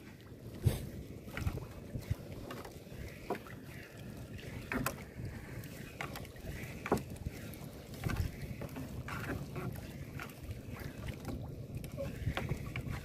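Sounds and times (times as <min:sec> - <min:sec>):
water sloshing against hull: 0:00.0 - 0:13.0.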